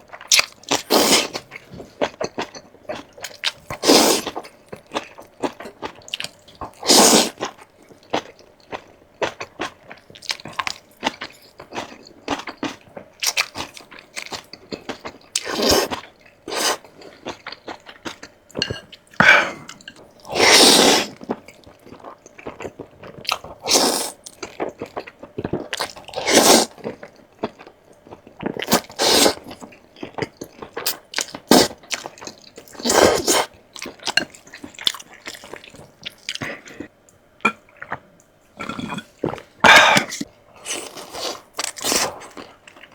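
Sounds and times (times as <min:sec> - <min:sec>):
person chewing with crunches: 0:00.0 - 0:42.9.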